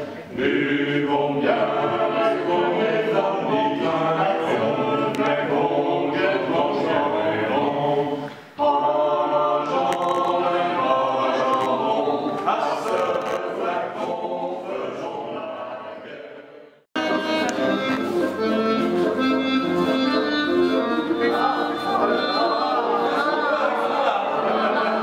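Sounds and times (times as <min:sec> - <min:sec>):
group of voices singing: 0:00.0 - 0:25.0.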